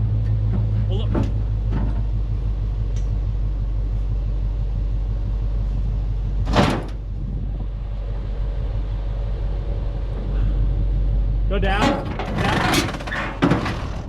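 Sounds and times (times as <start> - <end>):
machine engine idling: 0.0 - 14.0.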